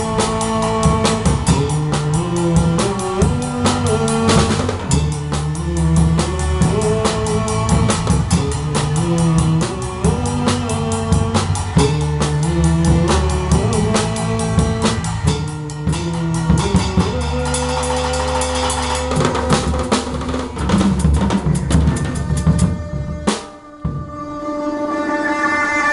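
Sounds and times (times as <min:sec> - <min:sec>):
band playing worship song: 0:00.0 - 0:25.9
drum kit beat: 0:00.0 - 0:25.9.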